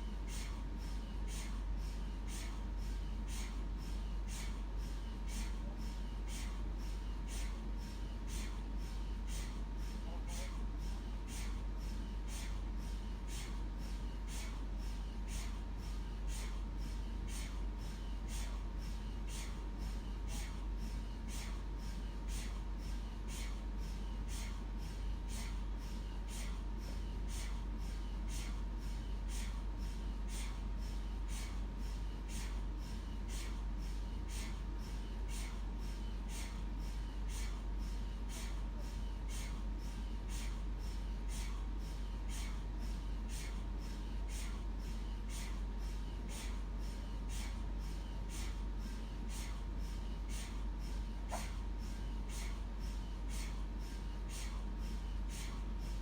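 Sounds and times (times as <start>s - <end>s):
mri scanner rhythmic pulses: 0.0s - 56.0s.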